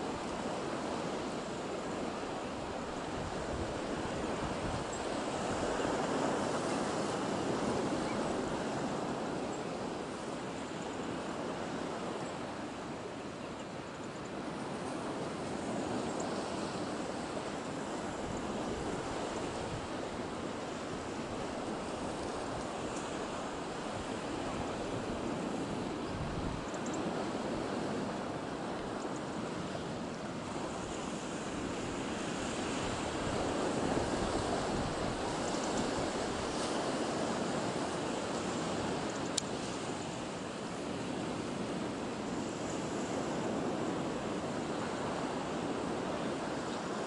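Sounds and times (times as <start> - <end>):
sea surf washing on shore: 0.0 - 47.0.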